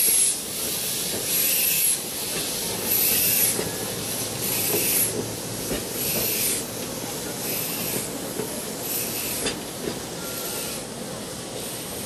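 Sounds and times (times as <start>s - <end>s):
steam locomotive hissing bursts: 0.0s - 12.0s.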